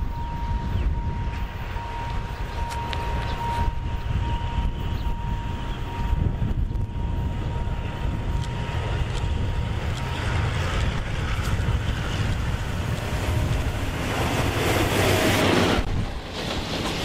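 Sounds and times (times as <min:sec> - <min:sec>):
diesel locomotive rumble: 0:00.0 - 0:17.0
wheel and rail noise: 0:00.0 - 0:17.0
wind noise on microphone: 0:00.0 - 0:17.0.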